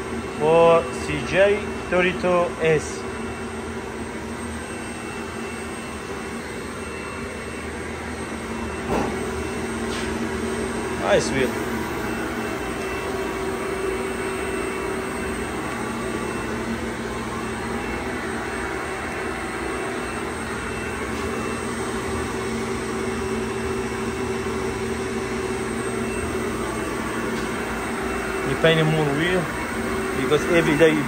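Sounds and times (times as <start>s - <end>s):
machine whirring hum: 0.0s - 31.0s.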